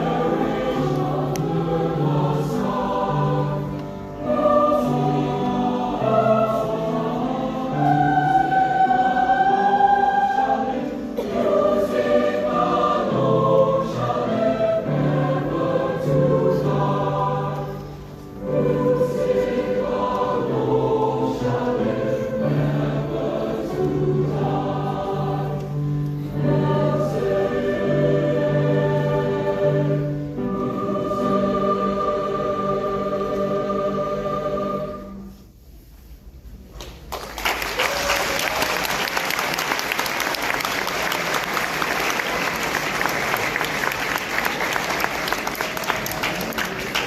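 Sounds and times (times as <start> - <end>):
choir singing in harmony: 0.0 - 35.6, 38.4 - 47.0.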